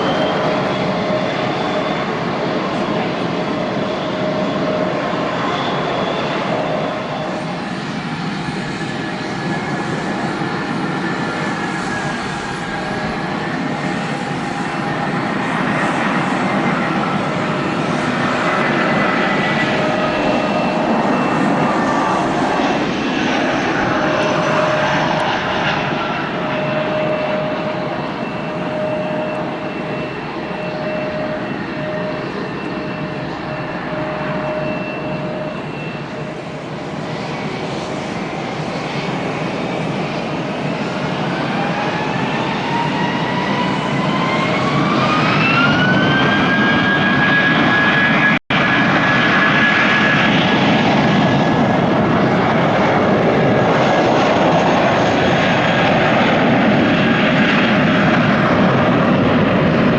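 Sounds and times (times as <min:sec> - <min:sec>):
high engine whine: 0:00.0 - 0:59.9
jet engine noise: 0:00.0 - 0:59.9.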